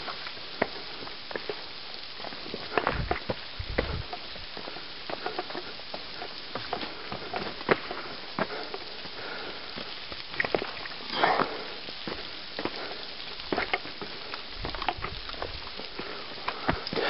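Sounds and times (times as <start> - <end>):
rustle: 0.0 - 17.0
steady hiss: 0.0 - 17.0
footsteps on loose rock: 0.6 - 9.2, 9.8 - 12.8, 13.4 - 17.0.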